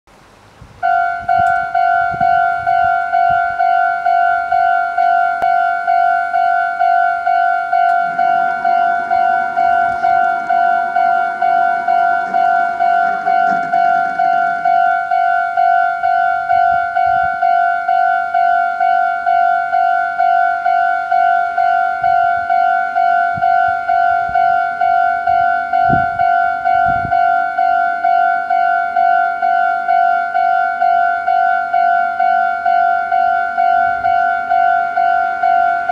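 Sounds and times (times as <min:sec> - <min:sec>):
level-crossing electronic bell: 0:00.8 - 0:35.9.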